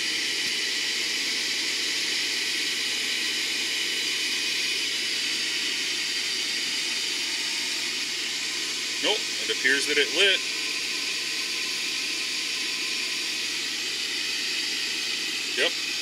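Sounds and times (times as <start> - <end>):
furnace burner motor and blower: 0.0 - 16.0.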